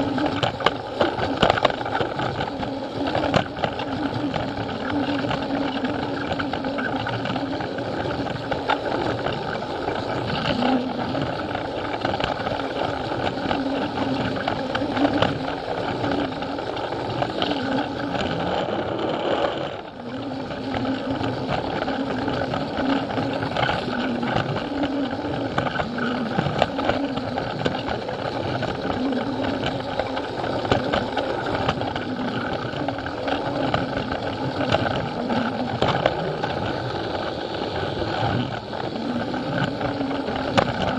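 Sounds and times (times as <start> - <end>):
plastic wheels clicking on track: 0.0 - 40.9
toy train electric motor running: 0.0 - 40.9.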